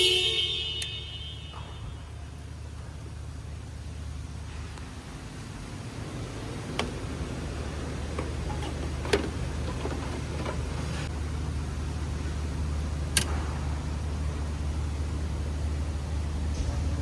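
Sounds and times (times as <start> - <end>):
car engine humming: 1.5 - 16.5.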